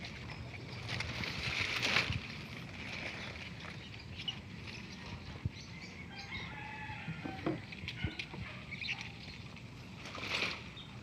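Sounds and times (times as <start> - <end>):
wet plants rustling: 0.0 - 11.0.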